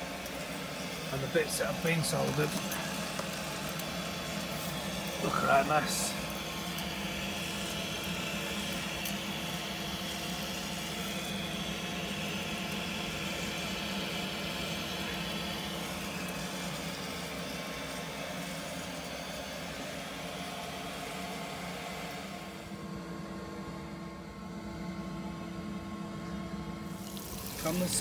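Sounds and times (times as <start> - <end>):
boiler heating system humming: 0.0 - 28.0.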